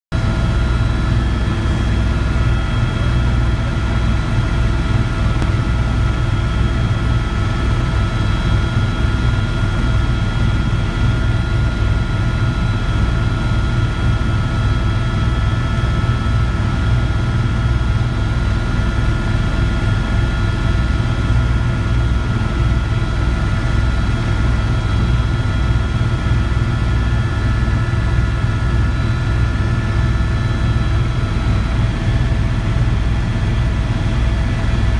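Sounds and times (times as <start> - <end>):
helicopter engine whine: 0.1 - 34.9
helicopter rotor throb: 0.2 - 34.9.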